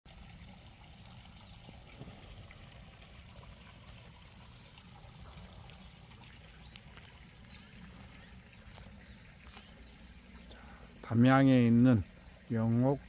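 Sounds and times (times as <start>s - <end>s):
faint trickle of stream: 0.1s - 13.0s.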